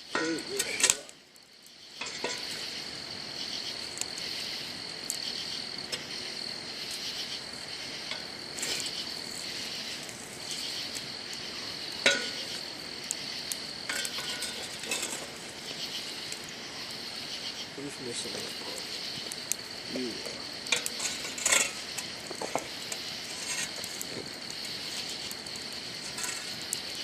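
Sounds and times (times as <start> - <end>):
campfire pops and snaps: 0.0 - 27.0
night insects chirring: 0.0 - 27.0.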